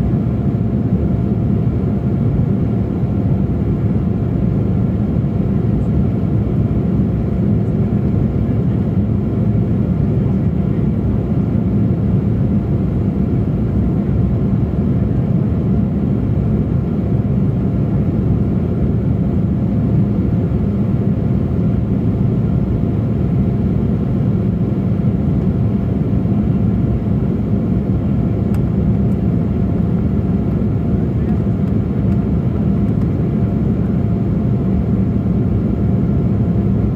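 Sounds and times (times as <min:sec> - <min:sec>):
airliner cabin engine rush: 0:00.0 - 0:36.9.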